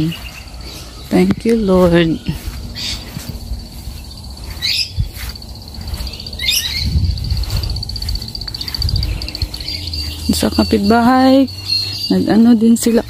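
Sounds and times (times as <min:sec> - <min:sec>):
bird harsh calls: 0:00.0 - 0:01.2, 0:01.8 - 0:13.0
pulsing insect trill: 0:00.0 - 0:13.0
low rumble: 0:00.2 - 0:12.1.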